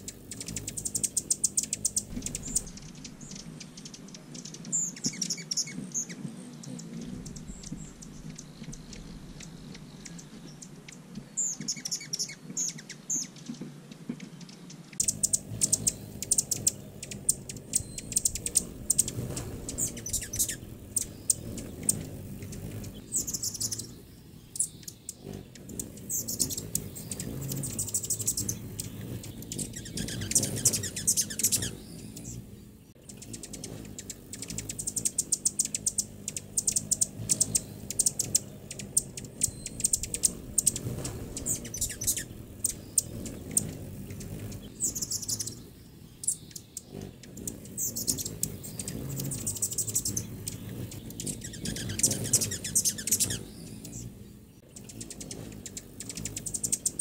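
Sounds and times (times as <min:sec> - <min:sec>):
hummingbirds chirping: 0:00.0 - 0:57.0.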